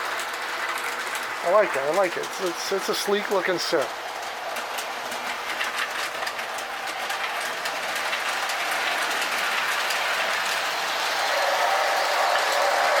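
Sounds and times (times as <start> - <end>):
toy train rolling on track: 0.0 - 13.0
wheels clicking over rail joints: 0.0 - 13.0.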